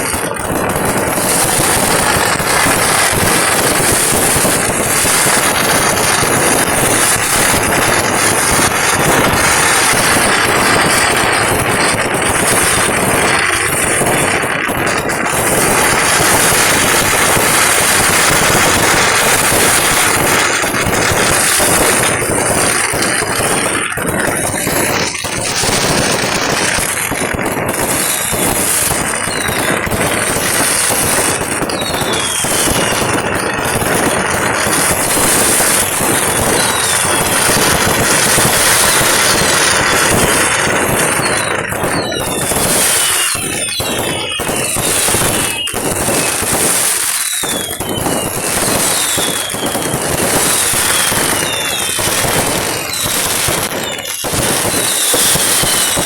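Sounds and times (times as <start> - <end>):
falling firework whistles: 0.0 - 56.0
fireworks bangs crackling: 0.0 - 56.0.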